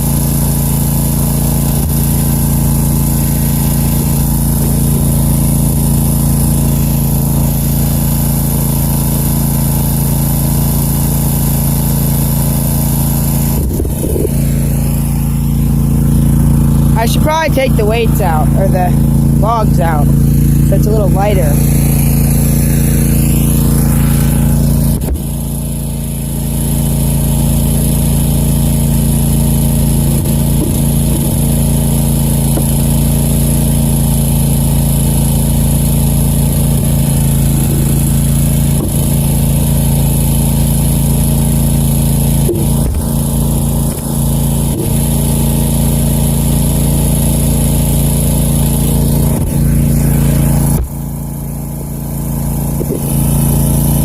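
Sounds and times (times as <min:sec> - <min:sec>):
mower engine running: 0:00.0 - 0:54.0.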